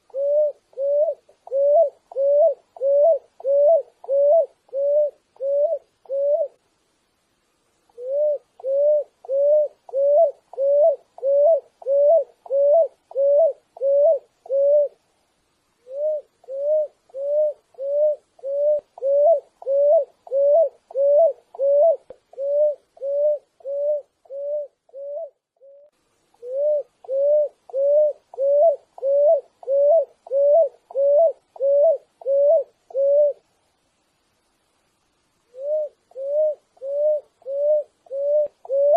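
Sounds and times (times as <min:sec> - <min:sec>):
dove cooing: 0:00.0 - 0:06.6, 0:07.9 - 0:15.0, 0:15.8 - 0:33.4, 0:35.5 - 0:38.9.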